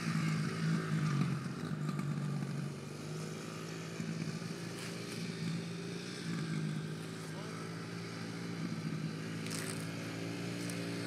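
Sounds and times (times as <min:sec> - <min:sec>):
distant dirt bike engine: 0:00.0 - 0:11.0.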